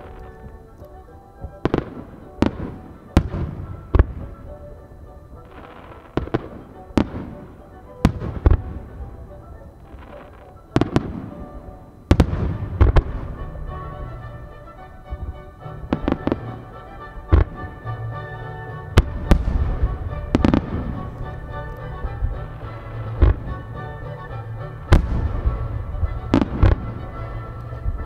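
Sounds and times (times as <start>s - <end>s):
background music: 0.0s - 28.0s
firework bangs echoing: 1.4s - 4.8s, 5.4s - 9.3s, 9.9s - 18.0s, 18.8s - 28.0s.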